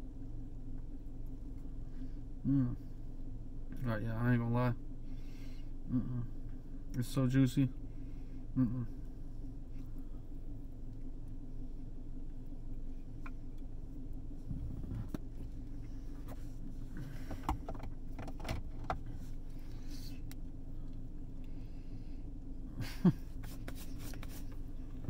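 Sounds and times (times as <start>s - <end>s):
low hum inside car: 0.0s - 25.0s.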